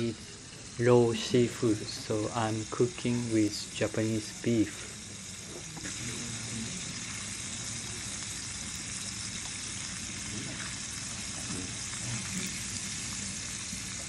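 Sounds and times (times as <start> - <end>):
meat and vegetables sizzling: 0.0 - 14.0.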